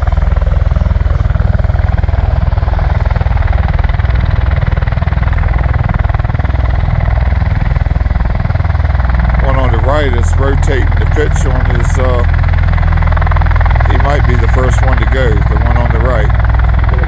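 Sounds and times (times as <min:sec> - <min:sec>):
tiltrotor aircraft running: 0:00.0 - 0:17.0.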